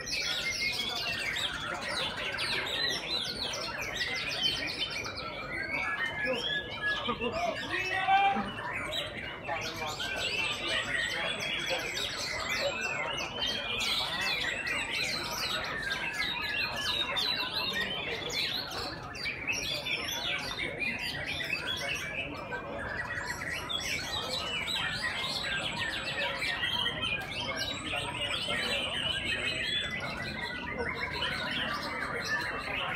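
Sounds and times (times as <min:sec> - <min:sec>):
chorus of songbirds singing: 0:00.0 - 0:32.9.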